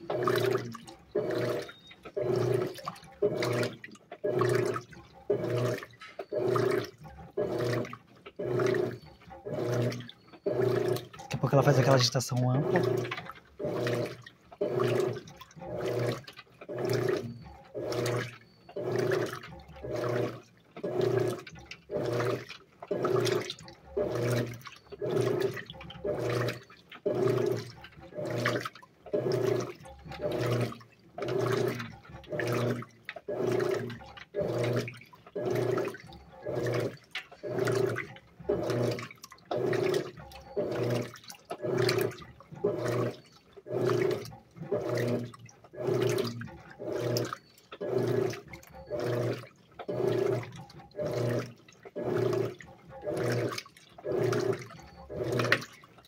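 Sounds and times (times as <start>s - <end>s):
washing machine motor hum: 0.0s - 56.0s
water sloshing: 0.0s - 56.0s.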